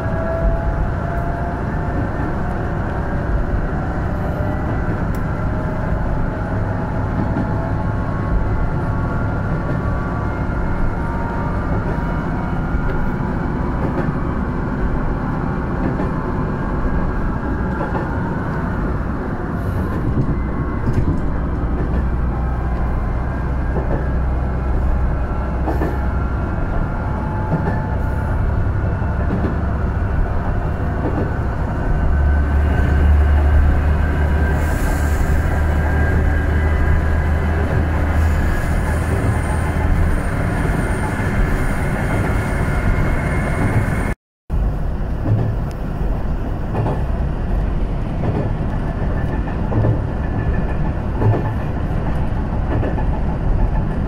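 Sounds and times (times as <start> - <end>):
railcar engine and wheels rumbling: 0.0 - 54.0.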